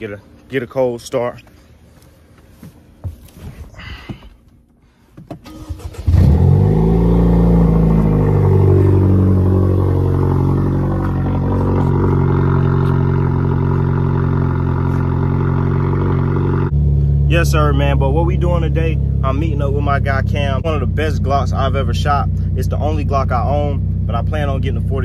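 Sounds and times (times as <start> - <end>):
car engine cranking and idling: 4.6 - 25.0.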